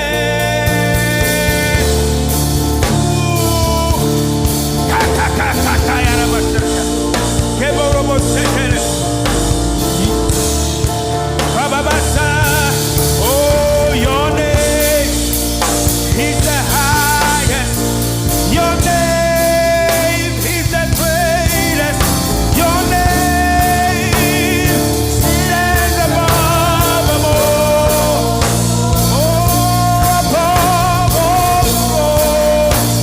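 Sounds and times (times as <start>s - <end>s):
drum kit: 0.0s - 33.0s
person singing with vibrato: 0.0s - 33.0s
steady bass: 0.0s - 33.0s.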